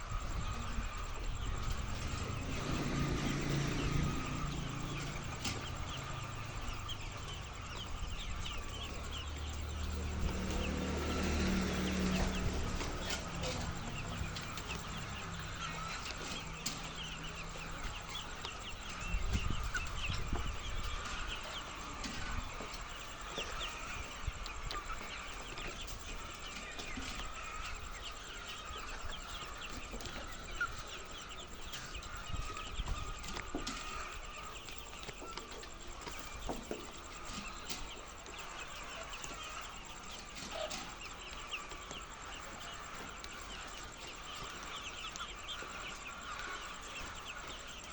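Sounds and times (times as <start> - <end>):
hens clucking: 0.0 - 47.9.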